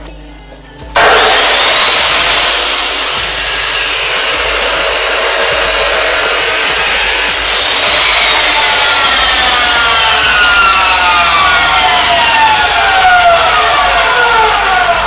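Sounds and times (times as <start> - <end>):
abrasive saw cutting steel: 1.0 - 15.0.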